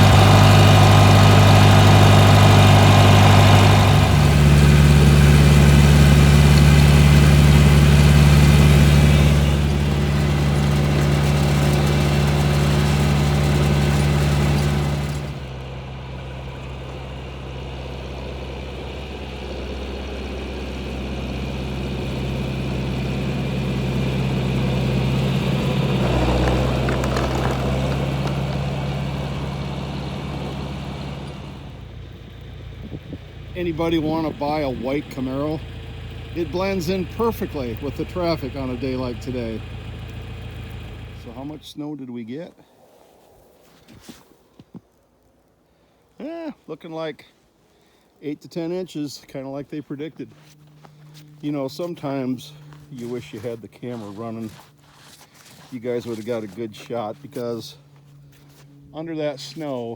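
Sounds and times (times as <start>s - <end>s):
tractor engine running: 0.0s - 41.8s, 48.8s - 59.9s.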